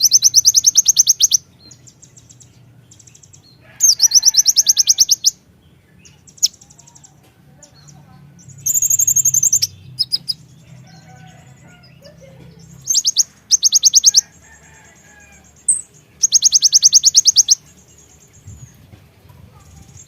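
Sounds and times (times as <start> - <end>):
bird trilling: 0.0 - 7.2, 8.4 - 18.8
bird chirps: 0.0 - 20.0.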